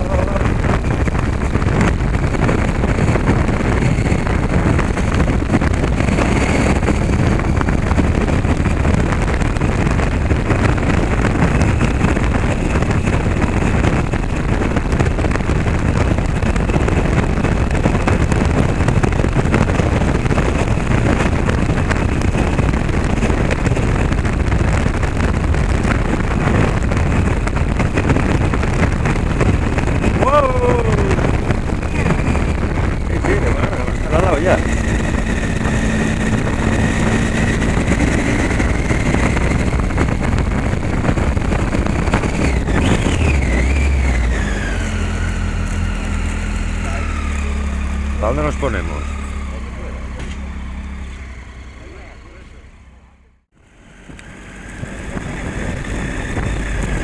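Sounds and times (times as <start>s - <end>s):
wind on microphone: 0.0s - 51.5s, 53.4s - 57.0s
motorcycle engine running: 0.0s - 57.0s
tyres rumbling on cobblestones: 0.0s - 57.0s.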